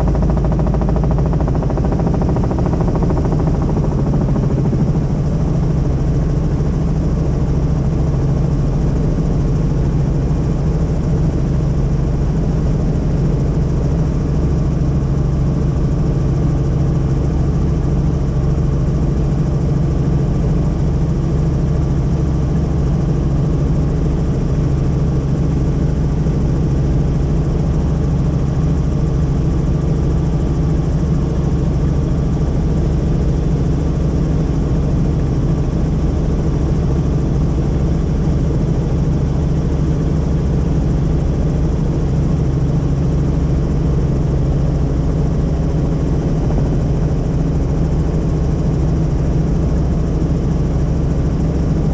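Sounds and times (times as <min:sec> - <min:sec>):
helicopter cabin drone: 0:00.0 - 0:51.9.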